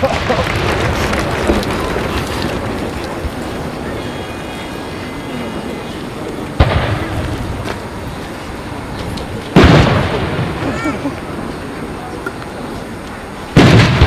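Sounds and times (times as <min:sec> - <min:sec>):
firework booms: 0:00.0 - 0:05.8, 0:06.4 - 0:12.0, 0:13.5 - 0:14.0
crowd noise: 0:00.0 - 0:14.0.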